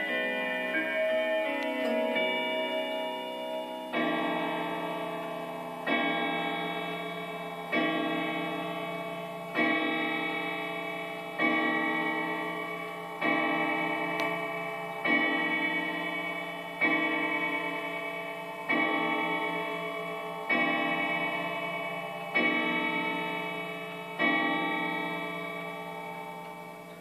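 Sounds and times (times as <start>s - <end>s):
clock chime tune: 0.0s - 27.0s
clock striking the hour: 0.0s - 27.0s.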